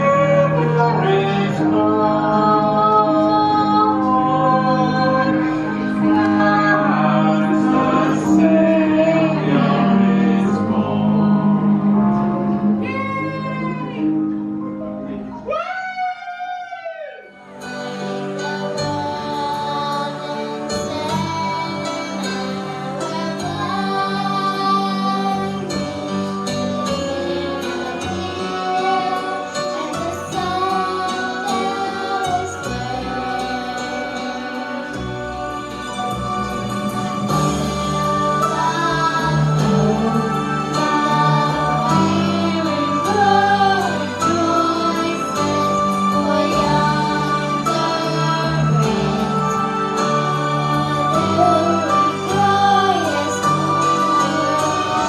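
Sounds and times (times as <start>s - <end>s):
person singing karaoke: 0.0s - 14.3s, 15.2s - 55.0s
music backing track: 0.0s - 55.0s.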